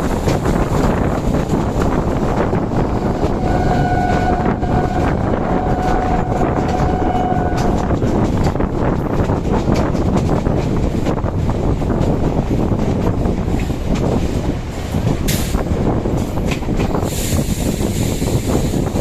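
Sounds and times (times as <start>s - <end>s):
train rail rumble: 0.0s - 19.0s
wind buffeting microphone: 0.0s - 19.0s.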